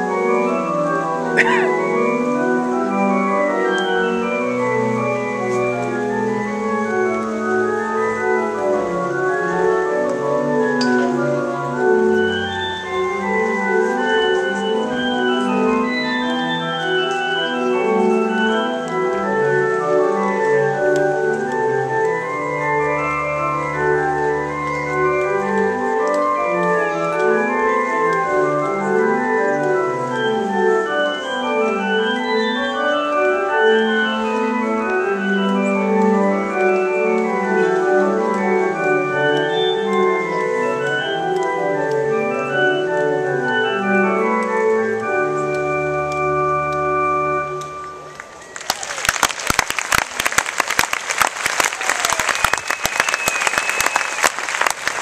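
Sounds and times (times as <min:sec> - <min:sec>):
organ music: 0:00.0 - 0:55.0.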